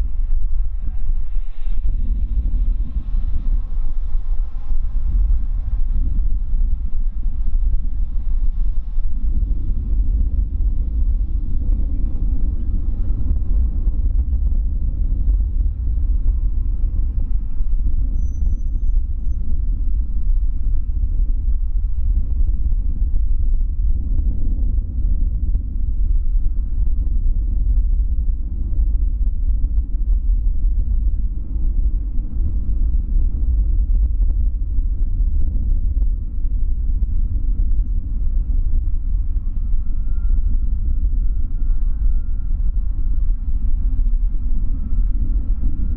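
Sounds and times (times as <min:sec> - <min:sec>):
jet airliner rolling rumble: 0:00.0 - 0:45.9
wind buffeting microphone: 0:00.0 - 0:45.9.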